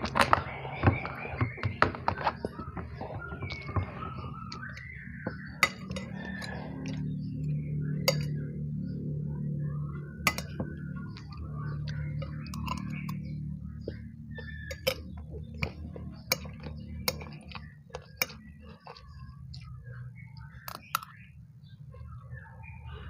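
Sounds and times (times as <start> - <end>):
utensils clinking against bowl: 0.0 - 9.0, 10.1 - 19.7, 20.5 - 21.2
low steady hum: 0.0 - 23.0
soft eating noises: 0.0 - 23.0.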